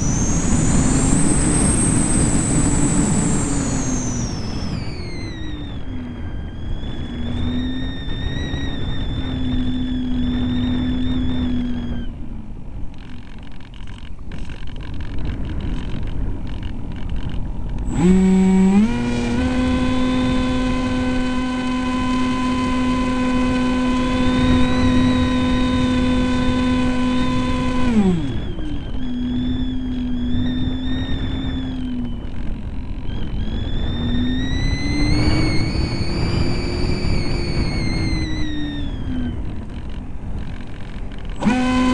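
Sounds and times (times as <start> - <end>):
electric motor and propeller whine: 0.0 - 41.9
wind noise: 0.0 - 41.9.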